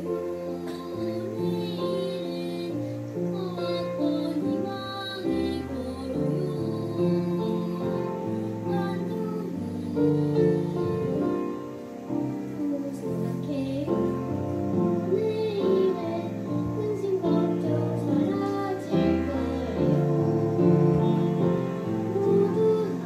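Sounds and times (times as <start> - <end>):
children's choir singing: 0.0 - 23.0
grand piano: 0.0 - 23.0.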